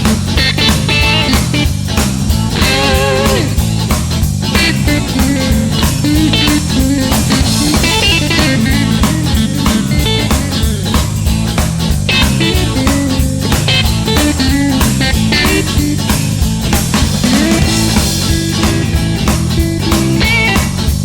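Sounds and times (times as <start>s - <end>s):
bass guitar: 0.0s - 21.0s
lead guitar with bent notes: 0.0s - 21.0s
steady drum beat: 0.0s - 21.0s.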